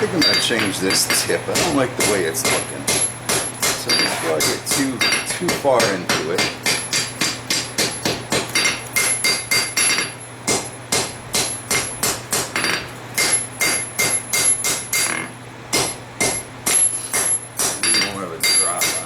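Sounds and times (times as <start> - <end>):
hammer striking hot steel on anvil: 0.0 - 19.0.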